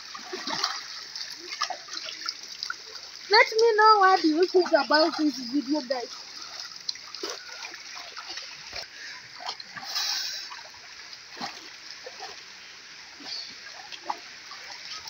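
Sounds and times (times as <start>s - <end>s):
flowing water rushing: 0.0s - 15.0s
water splashing: 0.0s - 15.0s.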